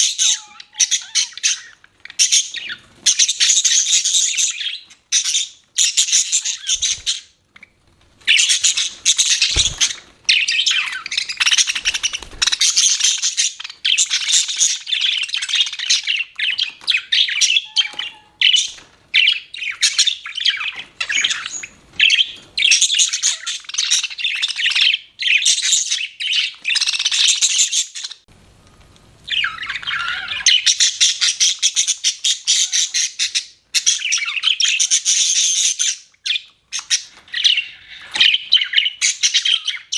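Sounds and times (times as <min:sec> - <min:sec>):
budgerigars chirping and chattering: 0:00.0 - 0:28.2, 0:29.3 - 0:39.9.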